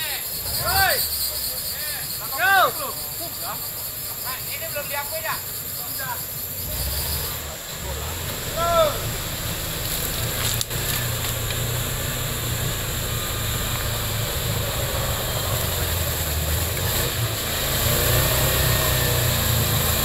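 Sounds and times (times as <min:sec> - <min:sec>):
off-road vehicle engine under load: 0:00.0 - 0:20.0
wheels churning in mud: 0:00.0 - 0:20.0.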